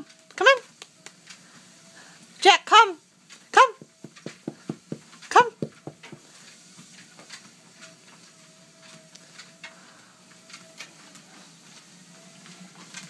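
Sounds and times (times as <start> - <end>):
dog's paws tapping on treadmill: 0.0 - 1.6, 2.4 - 13.0
treadmill whine: 0.0 - 13.0.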